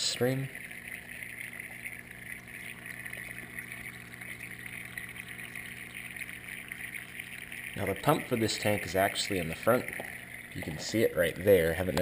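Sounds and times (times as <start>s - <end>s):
low steady hum: 0.0s - 12.0s
small stream trickling: 0.0s - 12.0s.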